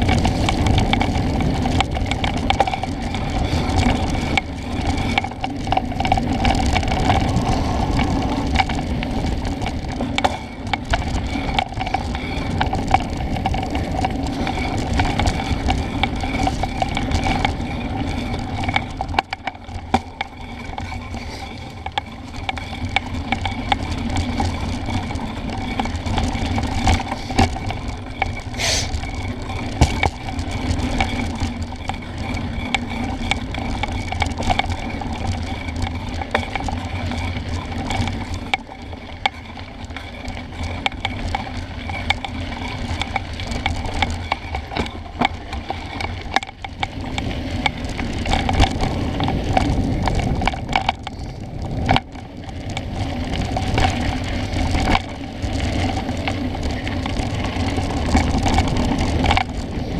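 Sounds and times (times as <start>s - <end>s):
bike chain and frame rattling: 0.0s - 59.9s
bike tyres on dirt: 0.0s - 59.9s.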